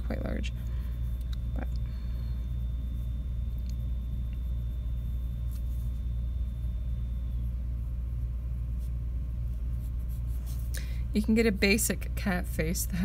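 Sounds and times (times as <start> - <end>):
faint high-pitched whine: 0.0 - 13.0
low background rumble: 0.0 - 13.0.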